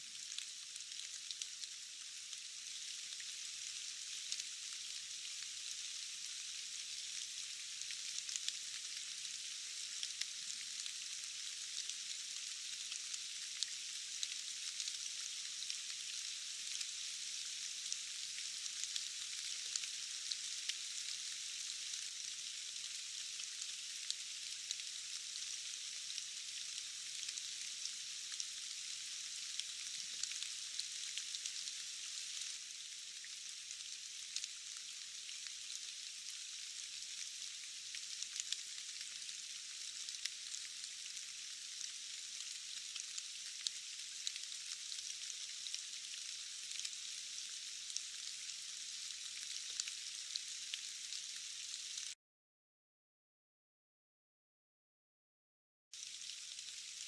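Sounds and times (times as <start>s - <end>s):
rain falling on foliage: 0.0s - 52.2s, 56.0s - 57.0s.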